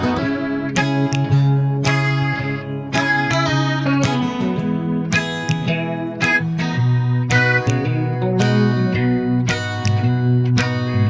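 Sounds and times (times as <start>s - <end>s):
strummed acoustic guitar: 0.0s - 11.0s
sustained bass notes: 0.0s - 11.0s.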